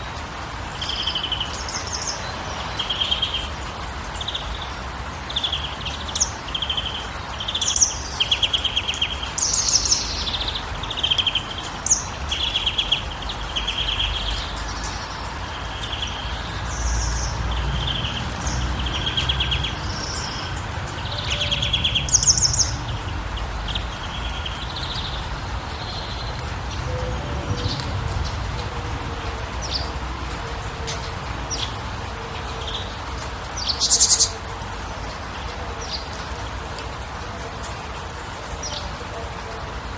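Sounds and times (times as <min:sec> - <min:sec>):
small birds chirping: 0:00.8 - 0:28.6, 0:30.7 - 0:36.2.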